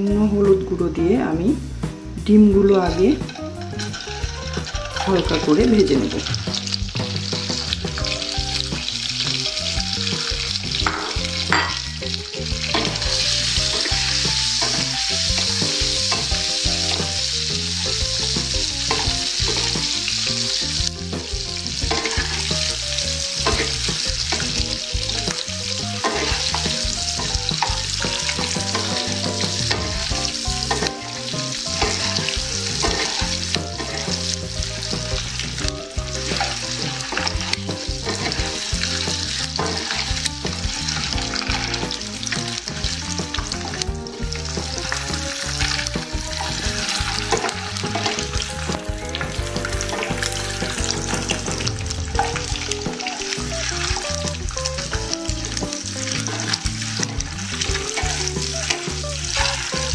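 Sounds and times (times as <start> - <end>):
eggs sizzling in oil: 0.0 - 59.9
wooden spatula stirring: 2.6 - 59.9.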